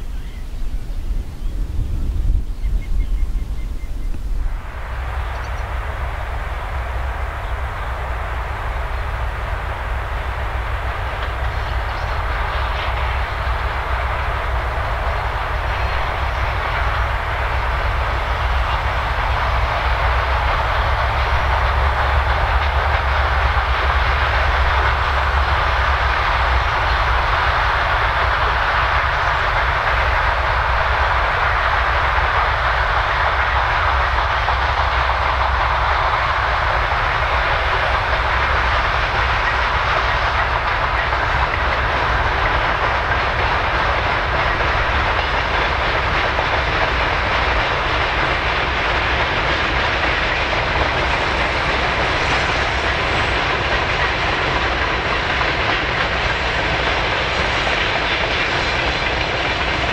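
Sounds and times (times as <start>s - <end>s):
diesel locomotive engine drone: 0.0s - 59.9s
freight train rolling: 0.0s - 59.9s.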